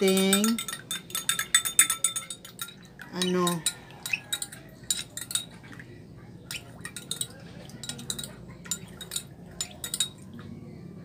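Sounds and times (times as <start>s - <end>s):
metal spoon clinking in ceramic mug: 0.0s - 5.8s, 6.5s - 10.3s.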